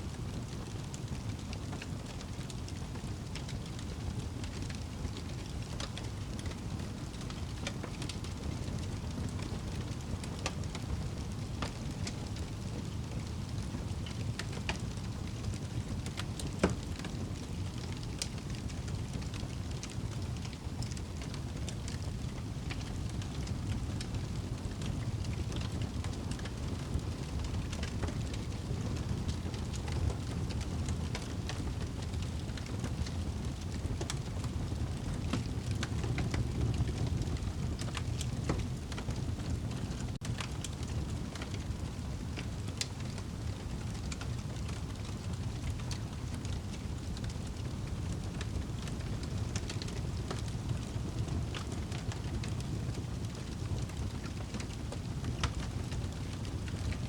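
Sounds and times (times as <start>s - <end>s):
fire rumbling: 0.0s - 57.0s
fire crackling: 0.1s - 57.0s.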